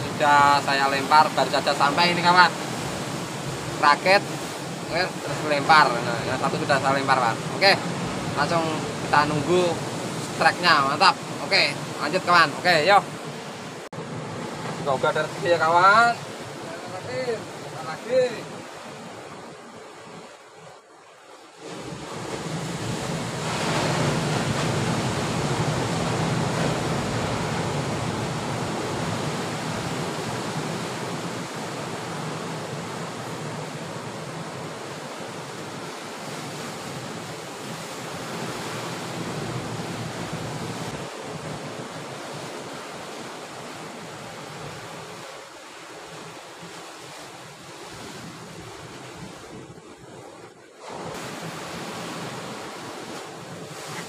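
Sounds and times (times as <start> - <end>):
surf breaking on rocky shore: 0.0 - 20.7, 21.4 - 54.0.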